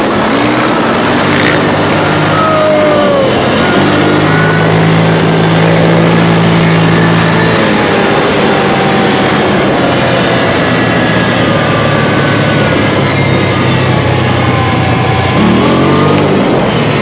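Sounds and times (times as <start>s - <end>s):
engine running while driving: 0.0s - 17.0s
tyres on gravel track: 0.0s - 17.0s.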